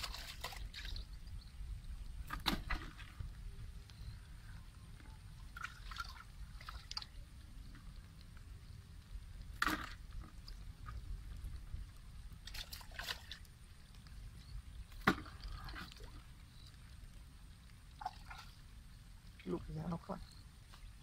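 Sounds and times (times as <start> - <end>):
water sloshing and splashing: 0.0 - 3.8, 4.9 - 8.2, 9.4 - 19.7.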